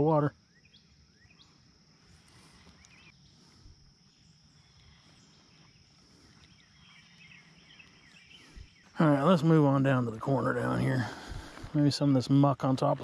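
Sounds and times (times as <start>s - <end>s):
faint bird chirps: 0.0s - 12.0s
insect drone: 0.0s - 13.0s.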